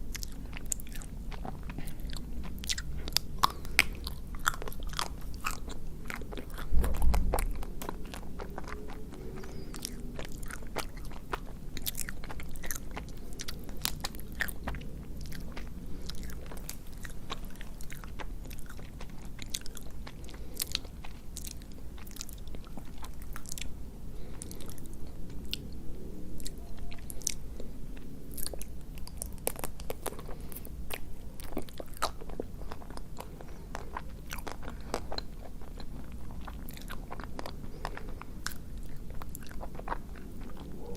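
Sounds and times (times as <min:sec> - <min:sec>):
biting and crunching chocolate: 0:00.0 - 0:40.9
chewing: 0:00.0 - 0:40.9.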